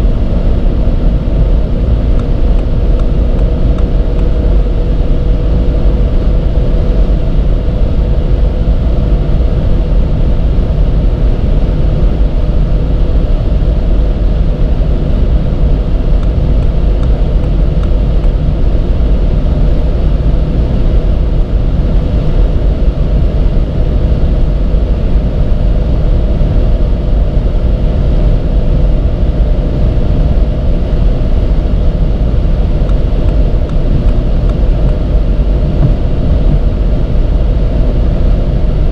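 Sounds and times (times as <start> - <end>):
car engine at steady high speed: 0.0 - 38.9
road and wind rumble: 0.0 - 38.9.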